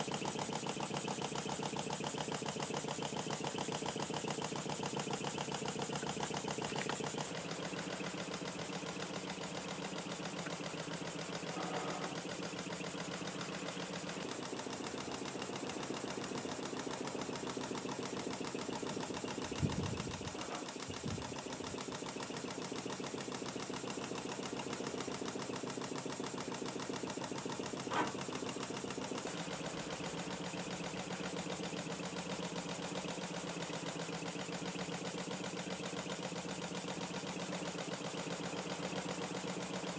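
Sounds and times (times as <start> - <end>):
model steam engine exhaust beats: 0.0 - 39.9.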